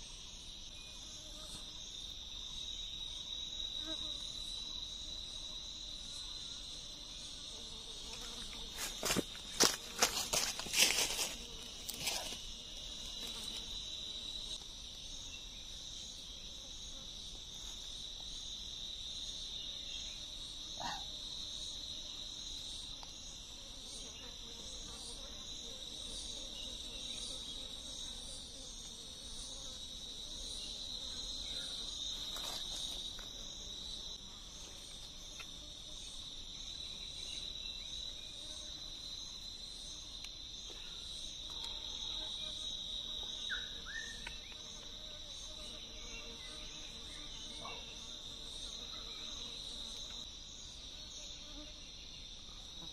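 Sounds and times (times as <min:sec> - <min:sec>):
forest insects chorus: 0:00.0 - 0:52.9.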